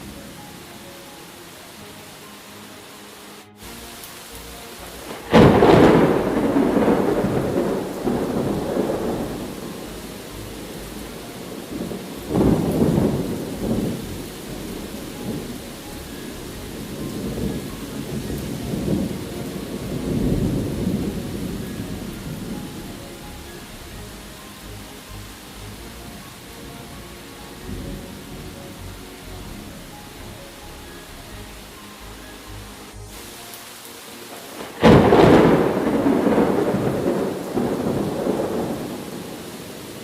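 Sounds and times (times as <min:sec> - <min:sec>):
steady rain: 0:00.0 - 0:40.0
thunder rumbling: 0:04.6 - 0:40.0.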